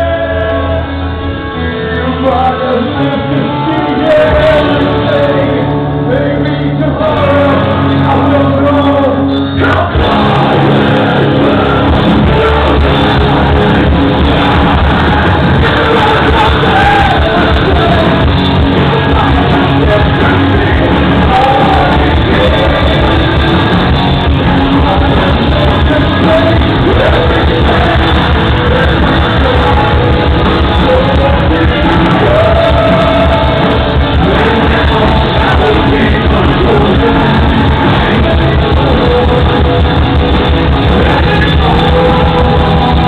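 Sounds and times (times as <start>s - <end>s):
lead vocal singing: 0.0s - 43.0s
live rock band playing: 0.0s - 43.0s.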